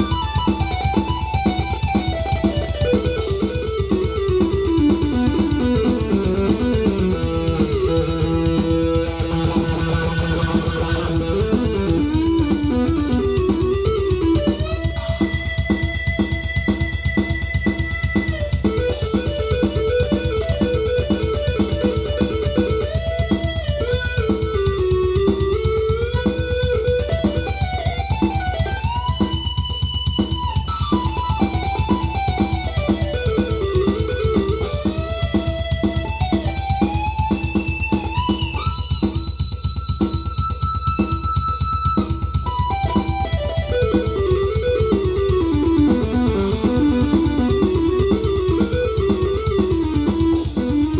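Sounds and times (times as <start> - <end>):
fast steady drum pattern: 0.0 - 50.9
synthesizer guitar-like lead: 0.0 - 50.9.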